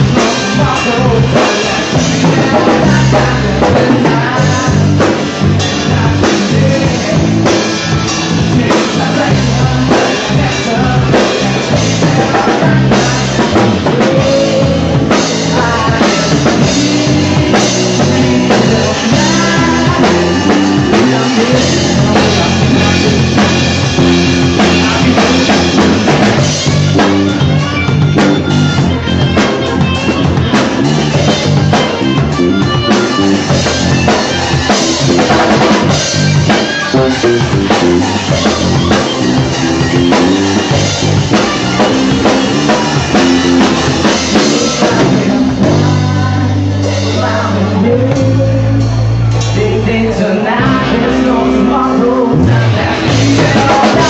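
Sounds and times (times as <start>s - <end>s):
drum kit: 0.0s - 54.0s
electric guitar: 0.0s - 54.0s
live rock band playing: 0.0s - 54.0s.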